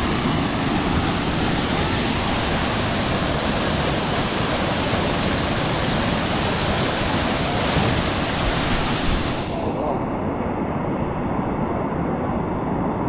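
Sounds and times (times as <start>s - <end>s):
waterfall roaring: 0.0s - 10.7s.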